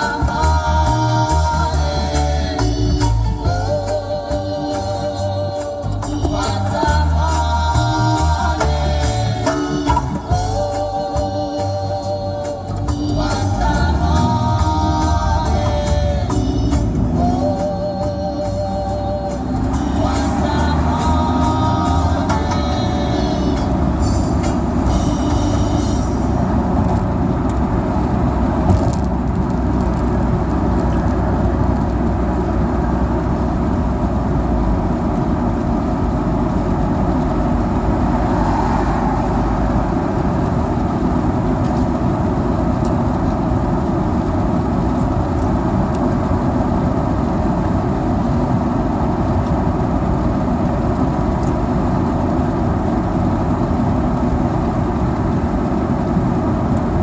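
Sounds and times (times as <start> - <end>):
car engine driving: 0.0 - 57.0
road noise: 0.0 - 57.0.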